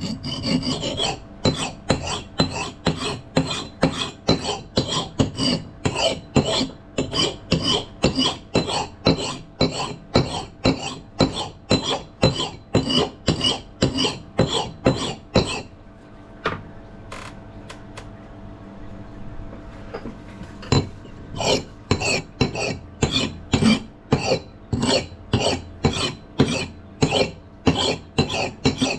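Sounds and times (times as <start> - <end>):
axe blade scraping: 0.0 - 15.7, 21.4 - 28.9.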